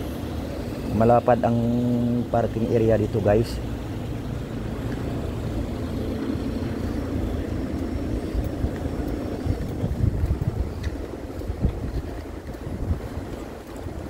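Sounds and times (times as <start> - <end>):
car driving slowly past: 0.0 - 14.0
wind buffeting microphone: 0.0 - 14.0.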